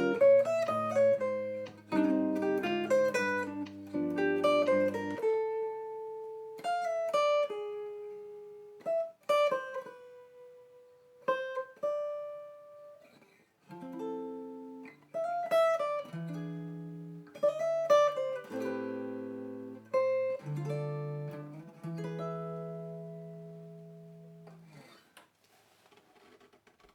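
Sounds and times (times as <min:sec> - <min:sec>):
guitar notes and chords: 0:00.0 - 0:13.0, 0:13.7 - 0:24.9.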